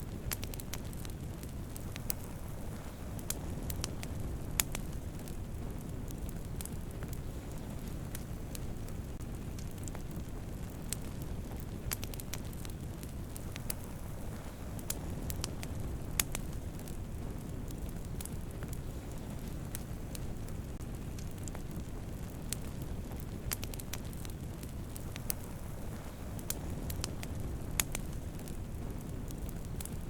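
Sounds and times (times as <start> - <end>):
campfire flames rushing: 0.0 - 30.0
fire crackling and popping: 0.0 - 30.0.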